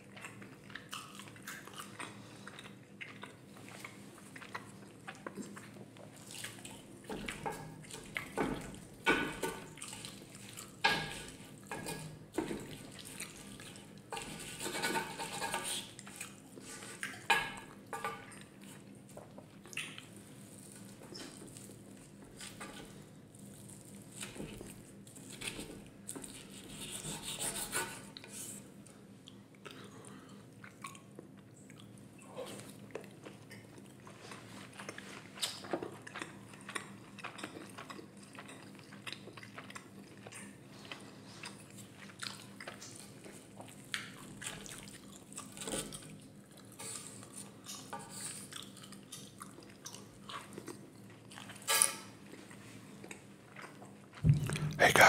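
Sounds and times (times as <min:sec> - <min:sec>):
chewing with wet mouth clicks: 0:00.0 - 0:14.1, 0:15.8 - 0:22.6, 0:28.2 - 0:54.8.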